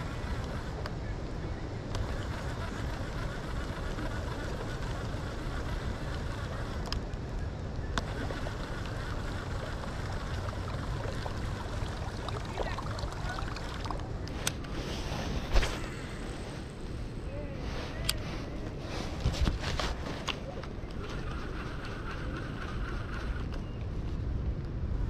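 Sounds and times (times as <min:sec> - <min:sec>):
wind and water noise: 0:00.0 - 0:25.0.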